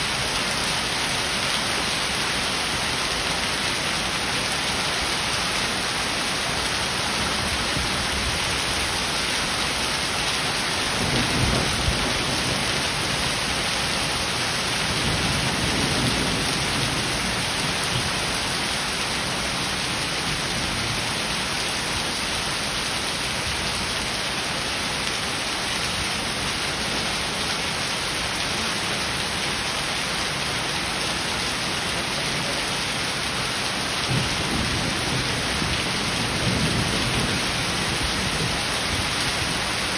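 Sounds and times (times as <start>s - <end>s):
heavy rain and hail falling: 0.0s - 39.9s.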